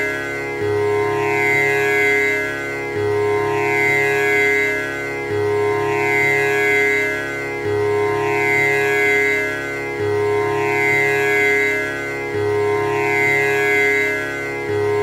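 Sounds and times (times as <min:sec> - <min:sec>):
tanpura drone: 0:00.0 - 0:15.0.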